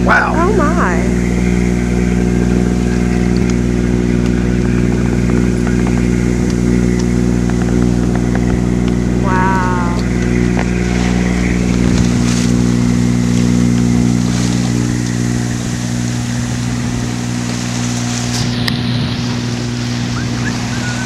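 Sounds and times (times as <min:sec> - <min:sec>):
boat diesel engine running: 0:00.0 - 0:21.0
water rushing along hull: 0:00.0 - 0:21.0.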